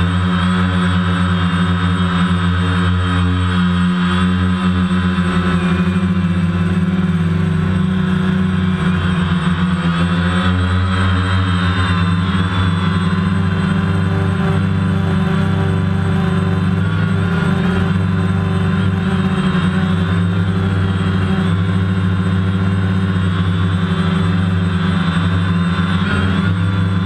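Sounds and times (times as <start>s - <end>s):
drone motors humming: 0.0s - 27.0s.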